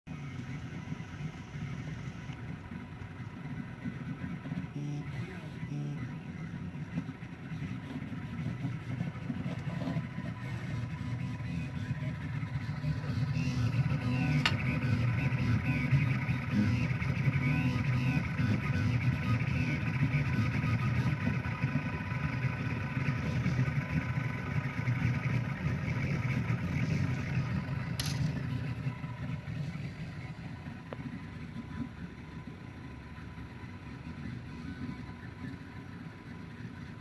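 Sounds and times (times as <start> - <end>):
printer mechanical hum: 0.1 - 37.0
whining tones: 0.1 - 37.0.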